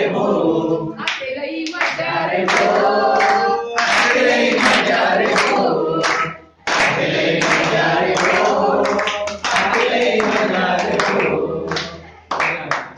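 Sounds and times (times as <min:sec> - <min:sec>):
group singing: 0:00.0 - 0:12.8
hands clapping along: 0:01.0 - 0:12.9.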